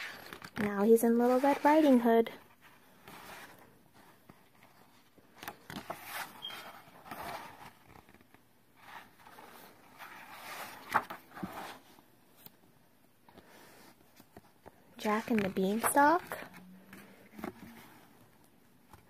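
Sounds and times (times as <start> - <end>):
book pages turning: 0.0 - 12.7, 13.3 - 19.0.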